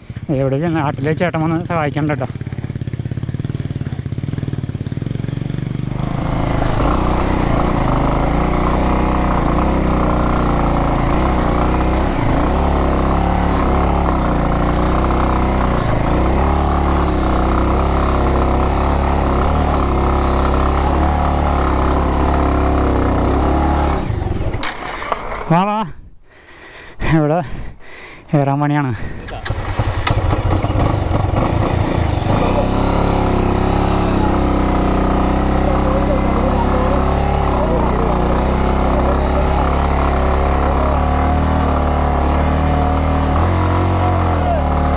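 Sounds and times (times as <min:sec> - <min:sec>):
motorcycle engine idling and revving: 0:00.0 - 0:25.8, 0:28.9 - 0:44.9.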